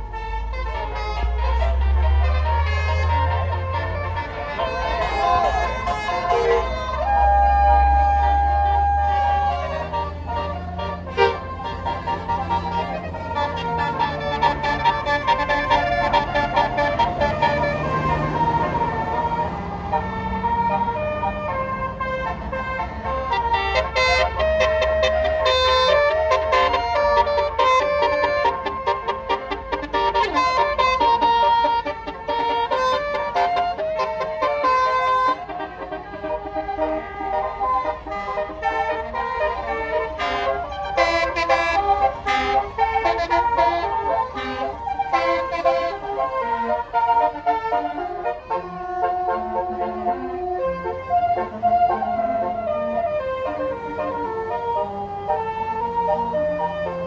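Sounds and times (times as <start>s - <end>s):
musical air horn playing a tune: 0.0s - 55.6s
bus engine humming: 0.0s - 57.0s.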